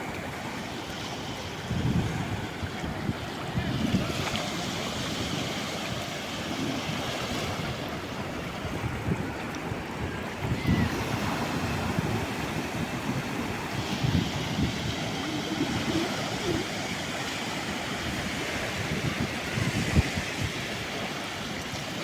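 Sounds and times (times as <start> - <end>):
sea waves washing onto shore: 0.0 - 22.0
wind gusts on microphone: 0.0 - 22.0.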